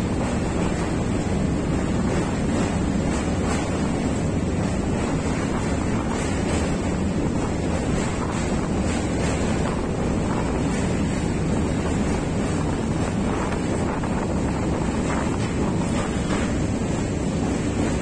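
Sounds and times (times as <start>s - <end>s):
train wheels rumbling on rails: 0.0s - 18.0s
wind buffeting microphone: 0.0s - 18.0s.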